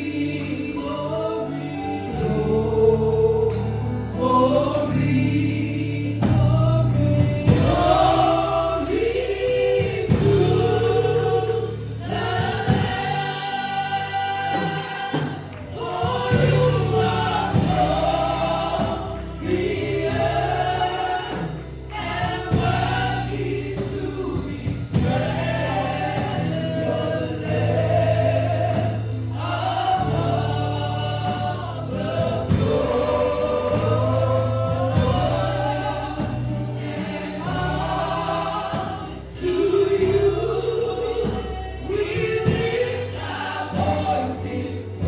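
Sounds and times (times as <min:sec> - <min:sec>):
choir singing with instruments: 0:00.0 - 0:45.0.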